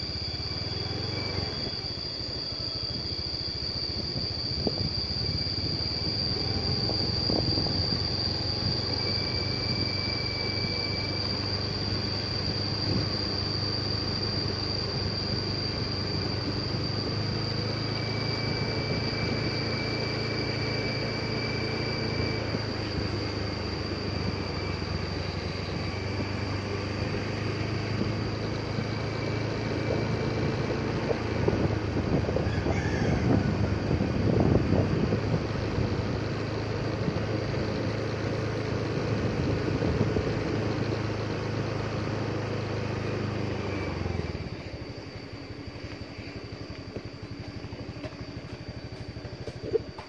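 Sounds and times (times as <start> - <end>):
thin high tone: 0.0 - 48.4
faint high whine: 0.0 - 50.0
vehicle engine and tyre noise: 0.0 - 50.0.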